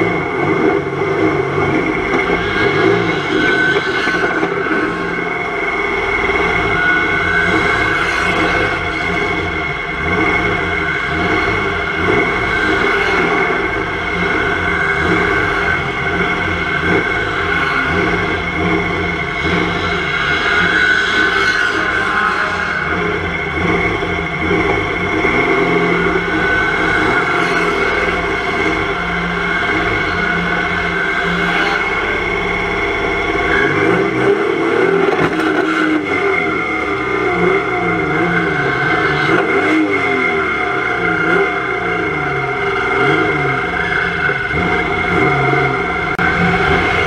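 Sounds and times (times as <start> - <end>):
race car engine revving: 0.0 - 47.0.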